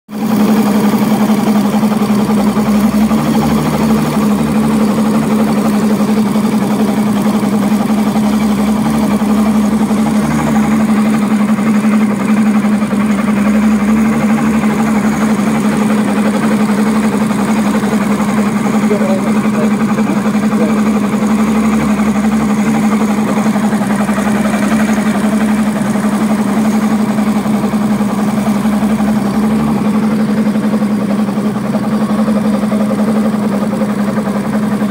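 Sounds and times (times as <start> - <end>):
outboard engine running: 0.1 - 34.9.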